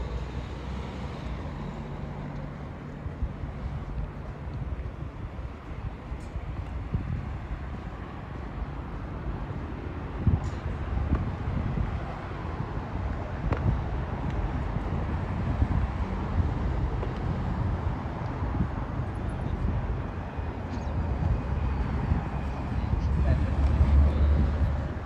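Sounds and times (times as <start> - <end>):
wind buffeting microphone: 2.6 - 25.0.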